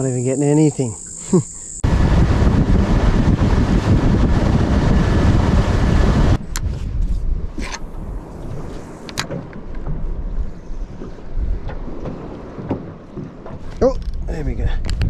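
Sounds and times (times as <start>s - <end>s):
boat motor and water rushing: 0.0s - 15.0s
wind on microphone: 1.7s - 15.0s.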